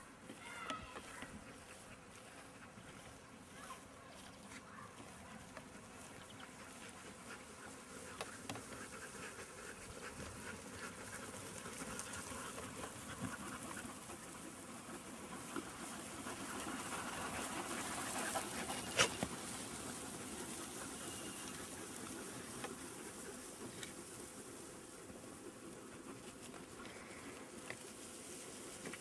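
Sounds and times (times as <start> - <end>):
sheep hoofbeats on grass: 0.1 - 29.0.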